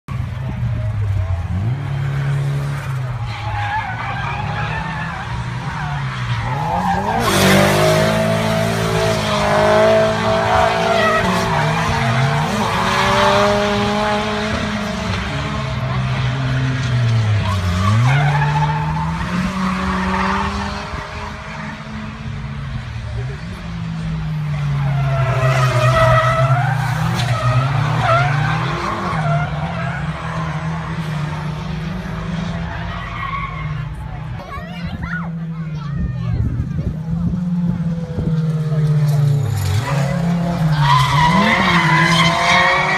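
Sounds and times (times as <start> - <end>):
car engines revving hard: 0.1 - 42.9.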